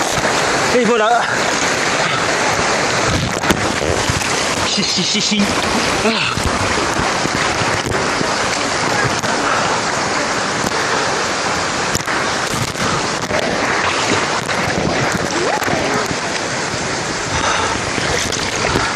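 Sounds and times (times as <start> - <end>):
water sloshing and splashing: 0.0 - 18.9.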